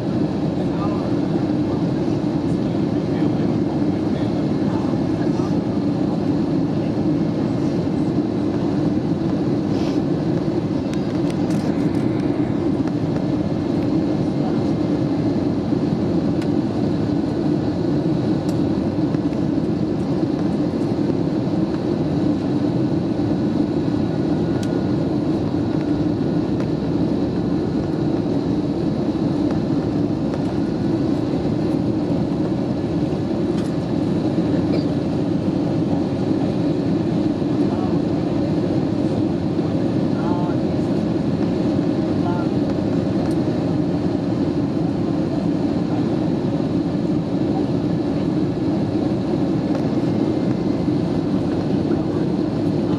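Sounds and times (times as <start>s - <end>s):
airplane cabin airflow rush: 0.0s - 52.9s
jet engine noise: 0.0s - 52.9s.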